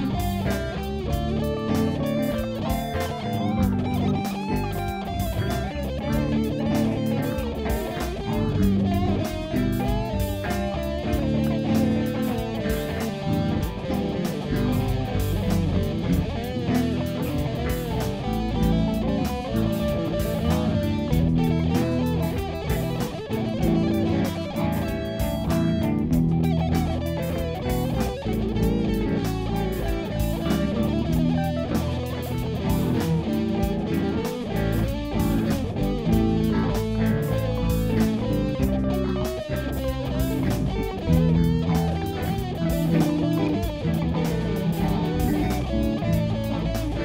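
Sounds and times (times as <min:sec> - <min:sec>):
electric guitar music with beat: 0:00.0 - 0:47.0.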